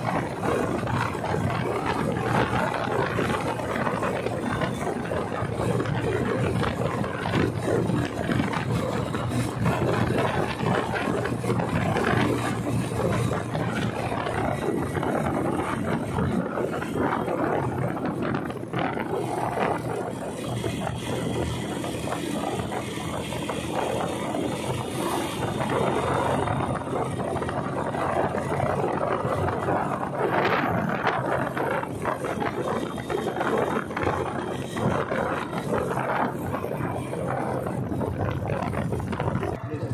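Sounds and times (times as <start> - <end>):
motorcycle engine hum: 0.0 - 39.9
wind and road noise: 0.0 - 39.9.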